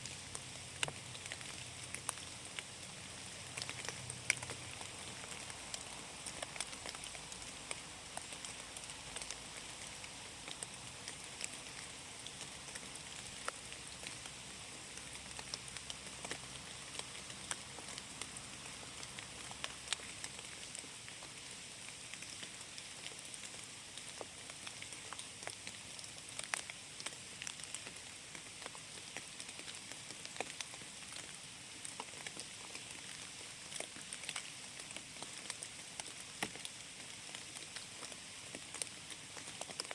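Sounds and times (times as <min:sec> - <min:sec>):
rain falling on forest: 0:00.0 - 0:39.9
raindrops ticking on leaves: 0:00.0 - 0:39.9.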